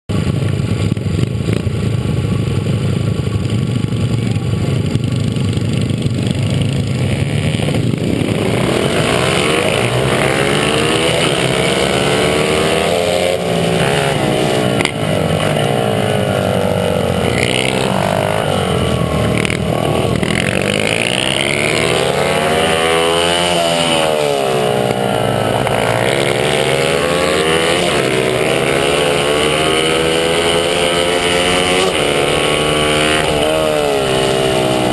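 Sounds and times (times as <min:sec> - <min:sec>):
small motorbike engine revving: 0:04.4 - 0:34.9.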